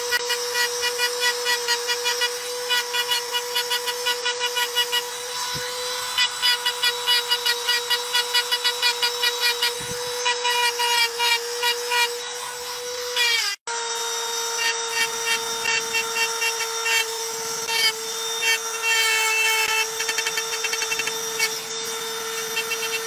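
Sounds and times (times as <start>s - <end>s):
rotary grinder whine: 0.0s - 23.0s.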